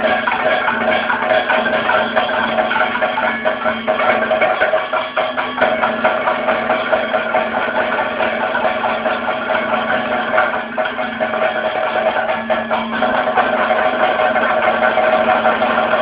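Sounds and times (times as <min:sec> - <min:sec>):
drums and cymbals playing fast: 0:00.0 - 0:16.0
steady held tone: 0:00.0 - 0:16.0.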